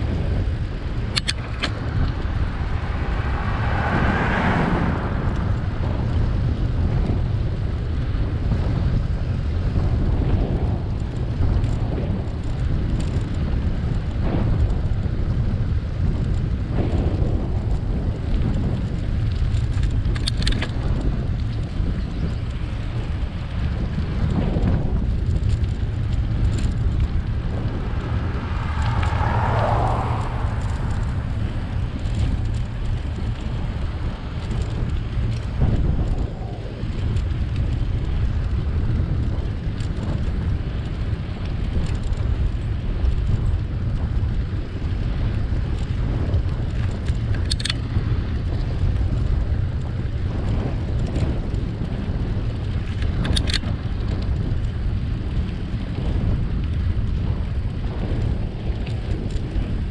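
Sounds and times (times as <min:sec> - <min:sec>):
road noise: 0:00.0 - 0:59.9
wind buffeting microphone: 0:00.0 - 0:59.9.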